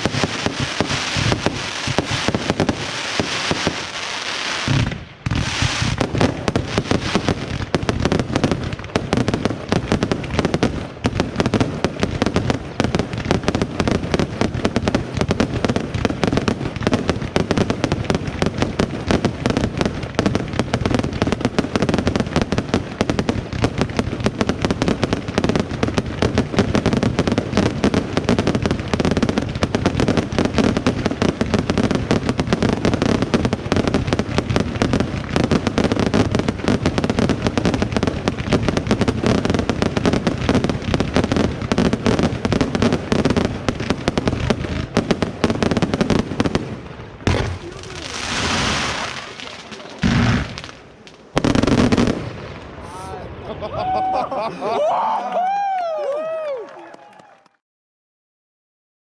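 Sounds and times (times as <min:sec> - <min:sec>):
fireworks bangs and crackles: 0:00.0 - 0:54.5.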